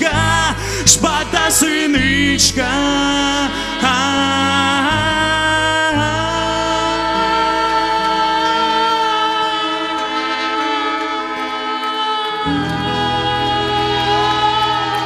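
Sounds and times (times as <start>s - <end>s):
live band music: 0.0s - 15.0s
voices singing: 0.0s - 15.0s.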